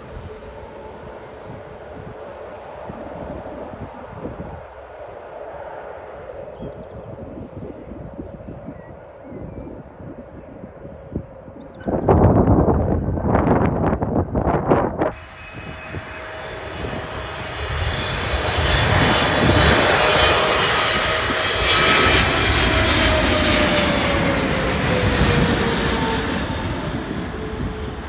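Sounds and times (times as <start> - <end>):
jet airliner passing overhead: 0.0 - 28.0
jet engine whine: 0.0 - 28.0.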